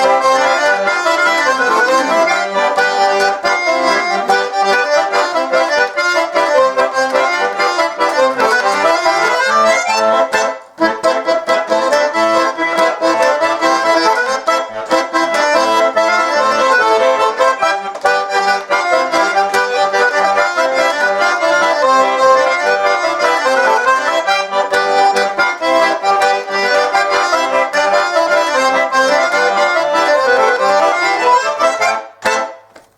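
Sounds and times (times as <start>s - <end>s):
button accordion playing lively tune: 0.0s - 32.7s.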